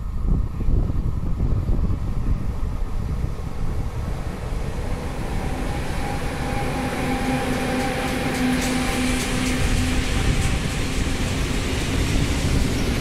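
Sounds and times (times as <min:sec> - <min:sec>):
locomotive electric hum: 0:00.0 - 0:13.0
train wheels rumbling on rails: 0:00.0 - 0:13.0.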